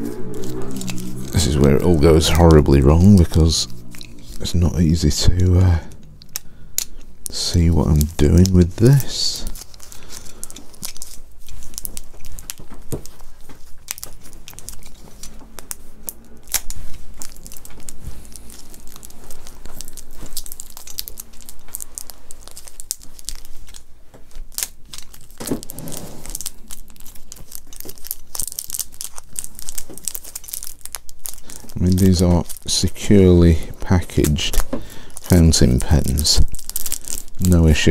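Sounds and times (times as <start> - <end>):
bubble wrap crinkling and tearing: 0.0 - 37.9.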